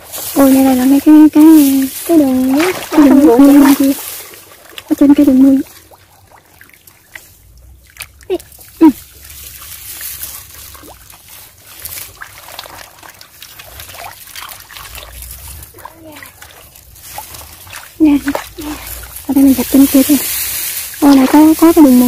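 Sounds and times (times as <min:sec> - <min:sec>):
hand sloshing in muddy water: 0:00.0 - 0:22.0.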